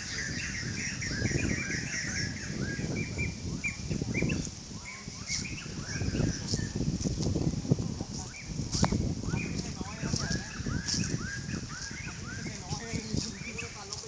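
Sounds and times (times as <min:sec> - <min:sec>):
low uneven rumble: 0:00.0 - 0:14.0
small birds chirping: 0:00.0 - 0:14.0.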